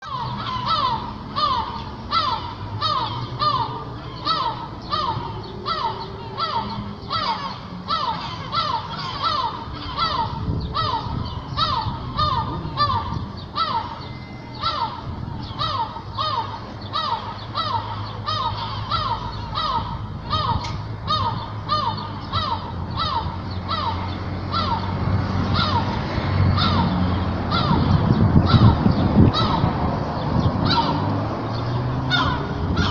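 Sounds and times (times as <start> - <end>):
bird calling: 0.0 - 32.9.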